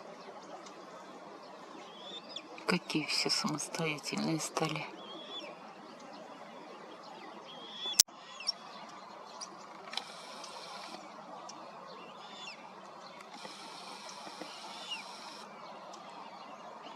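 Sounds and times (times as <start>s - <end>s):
outdoor background: 0.0s - 16.9s
small birds chirping: 0.0s - 16.9s.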